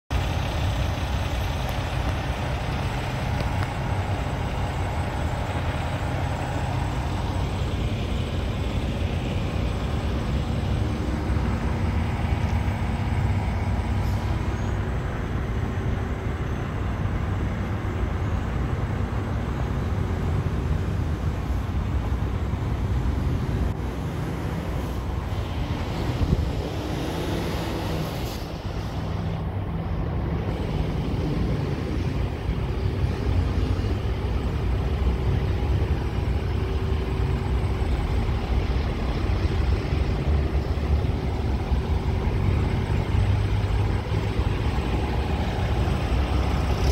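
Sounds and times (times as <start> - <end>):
diesel truck engine idling: 0.1 - 46.9.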